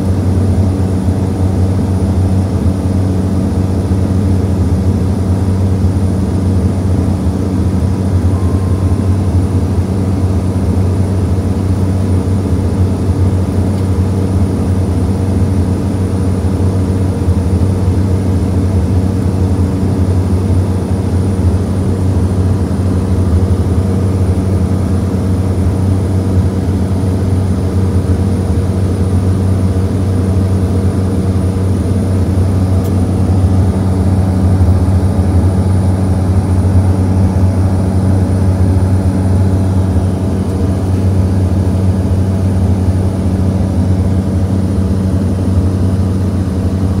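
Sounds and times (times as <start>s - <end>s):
high engine whine: 0.0s - 47.0s
turboprop engine droning: 0.0s - 47.0s.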